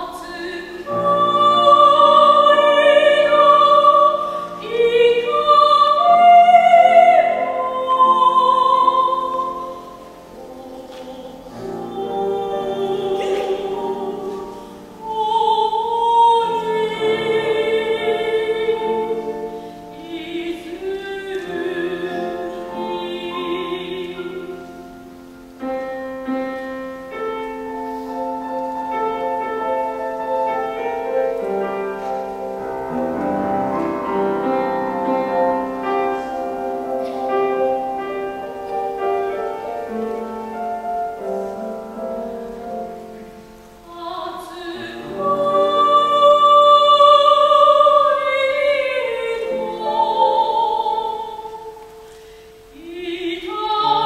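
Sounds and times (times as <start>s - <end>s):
grand piano: 0.0s - 54.0s
soprano singing with vibrato: 0.0s - 54.0s.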